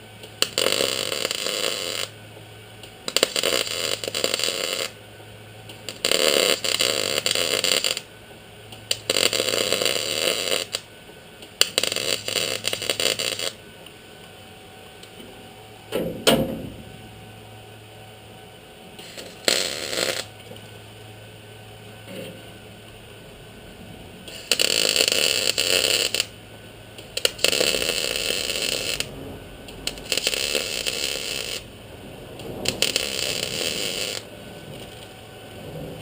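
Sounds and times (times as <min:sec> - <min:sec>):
welder crackling and sputtering: 0:00.0 - 0:17.0, 0:18.5 - 0:36.0.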